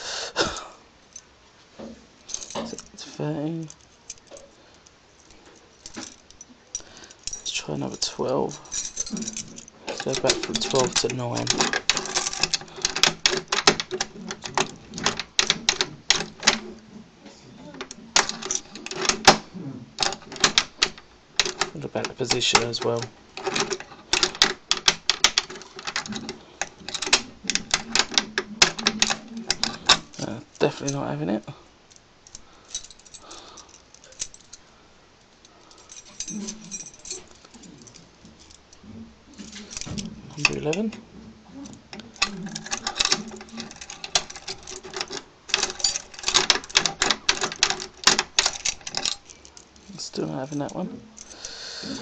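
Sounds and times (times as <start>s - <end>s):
key clicking and rattling in lock: 2.2s - 16.8s, 17.7s - 31.2s, 31.8s - 38.8s, 39.4s - 52.0s.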